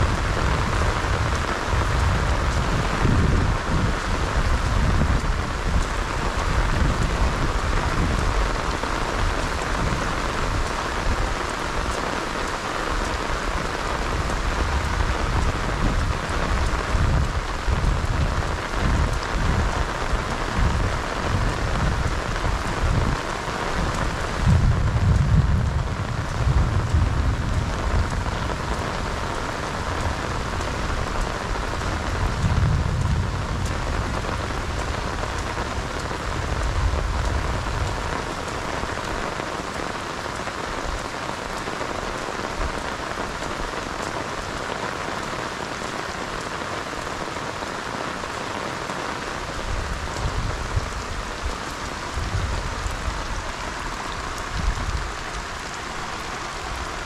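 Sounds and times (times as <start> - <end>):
heavy rain on water: 0.0 - 57.0.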